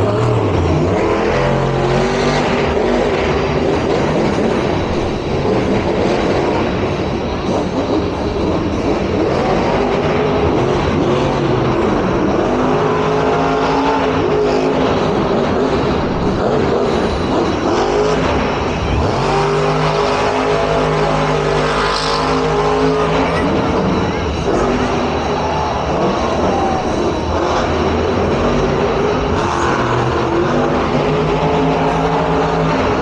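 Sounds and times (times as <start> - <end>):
monster truck engines revving: 0.0 - 33.0.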